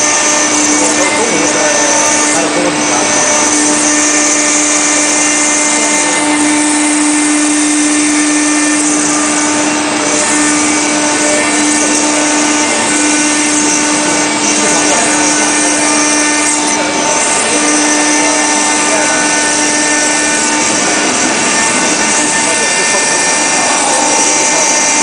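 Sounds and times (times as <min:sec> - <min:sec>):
cutter grinding stone: 0:00.0 - 0:25.0
router spindle humming: 0:00.0 - 0:25.0.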